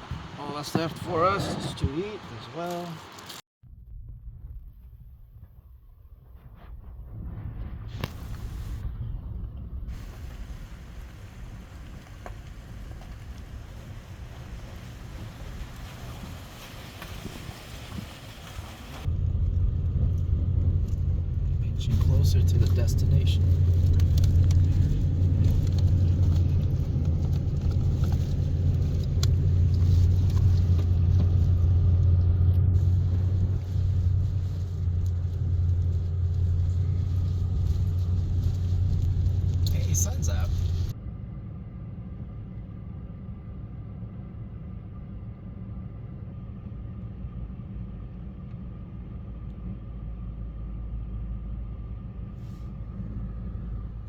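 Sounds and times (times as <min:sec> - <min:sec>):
truck engine and road noise: 0:00.0 - 0:03.4, 0:06.9 - 0:54.0
steady low rumble: 0:03.6 - 0:54.0.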